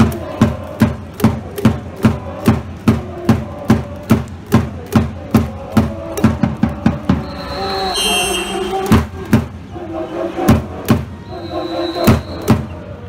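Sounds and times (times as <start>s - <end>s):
drum beating a steady rhythm: 0.0s - 7.5s, 8.2s - 9.7s, 10.3s - 11.3s, 12.0s - 12.8s.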